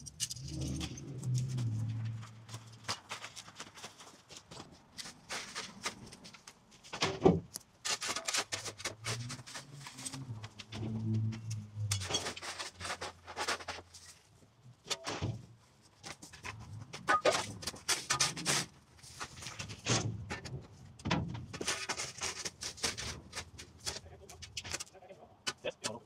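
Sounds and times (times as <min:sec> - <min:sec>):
knocks scrapes and rustles: 0:00.0 - 0:24.9.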